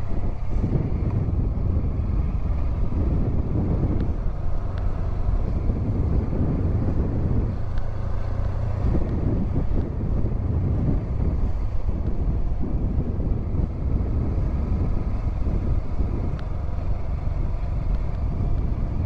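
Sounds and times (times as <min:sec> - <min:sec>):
motorcycle engine rumble: 0:00.0 - 0:19.0
wind buffeting microphone: 0:00.0 - 0:19.0.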